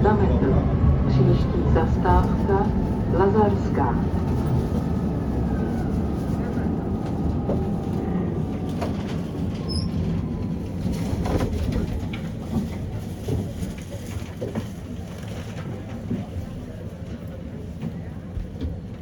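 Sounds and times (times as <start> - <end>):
tram rumbling on rails: 0.0 - 19.0.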